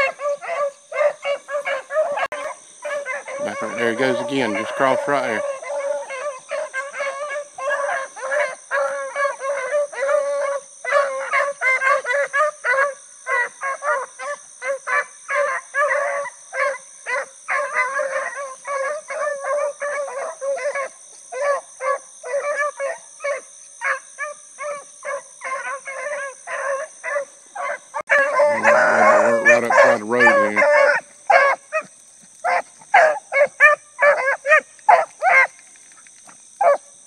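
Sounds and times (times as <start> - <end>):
pack of dogs barking and bawling: 0.0 - 37.0.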